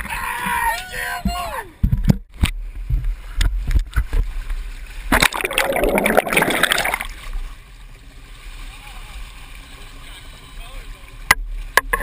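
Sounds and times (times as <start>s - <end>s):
water splashing against boat: 2.0s - 12.0s.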